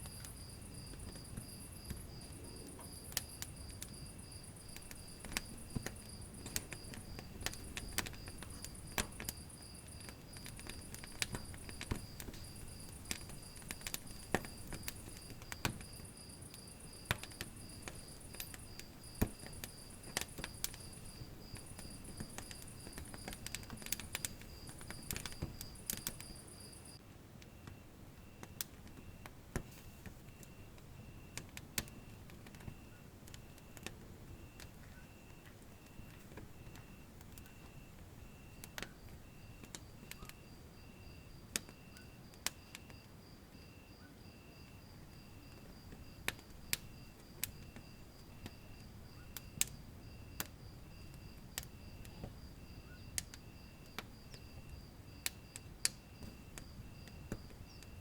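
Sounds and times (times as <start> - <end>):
faint lower pulsing chirp: 0.0 - 58.0
wood fire crackling and popping: 0.0 - 58.0.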